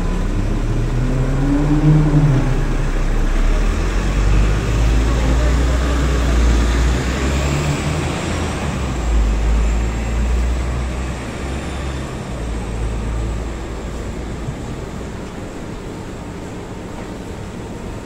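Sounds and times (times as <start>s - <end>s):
city traffic: 0.0s - 18.0s
vehicle engine rumble: 0.0s - 18.0s.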